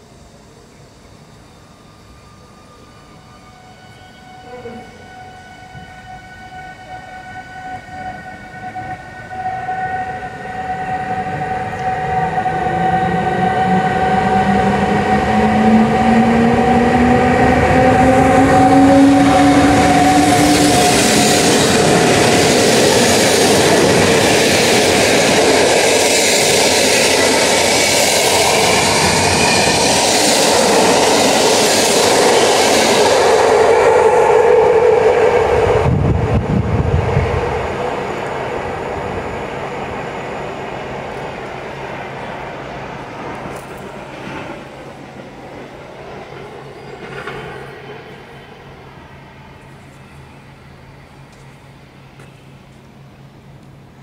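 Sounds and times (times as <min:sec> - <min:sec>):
electric locomotive motor whine: 0:00.0 - 0:54.0
train coaches rushing past: 0:03.8 - 0:53.9.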